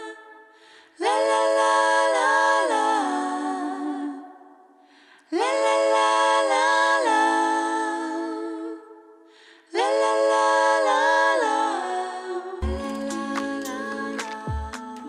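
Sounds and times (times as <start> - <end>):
a cappella voices singing chords: 0.0 - 15.0.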